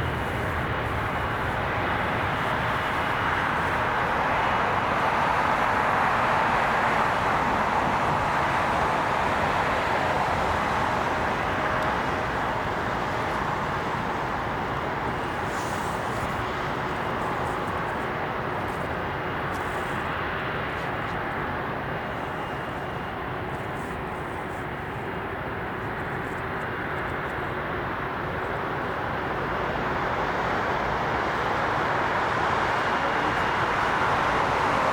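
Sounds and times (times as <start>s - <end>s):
jet engines roaring: 0.0s - 23.4s, 27.1s - 34.9s
faint steady whine: 0.0s - 34.9s.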